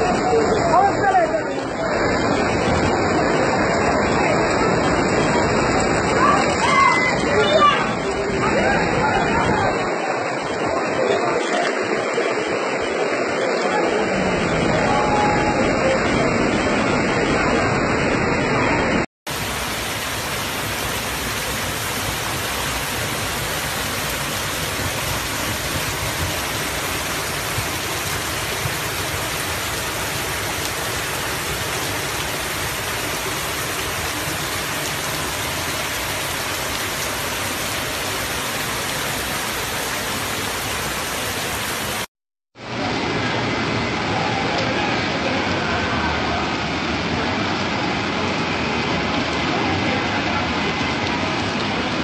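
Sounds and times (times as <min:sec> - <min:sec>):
heavy rain and rushing floodwater: 0:00.0 - 0:52.0.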